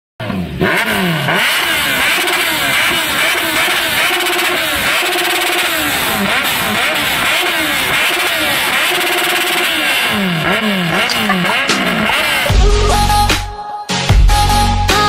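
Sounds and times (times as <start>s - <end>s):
motorcycle engine revving: 0.2s - 13.5s.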